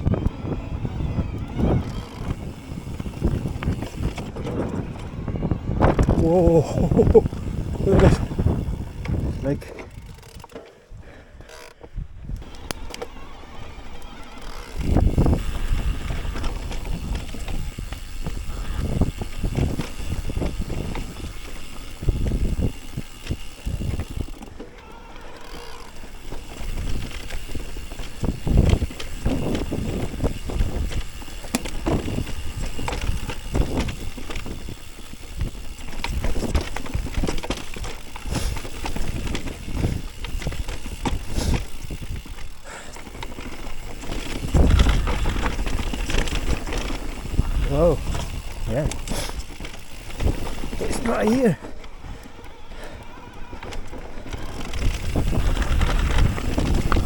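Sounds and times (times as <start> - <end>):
bike tyres rolling on dirt: 0.0 - 57.0
bike thumping and rattling: 0.1 - 5.2, 5.8 - 10.7, 11.4 - 57.0.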